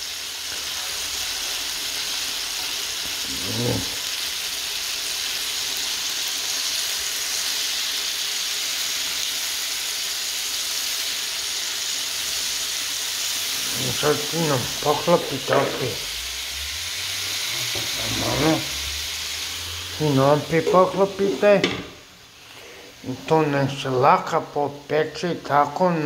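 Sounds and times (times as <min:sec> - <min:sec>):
chicken wings sizzling in a pan: 0:00.0 - 0:26.0.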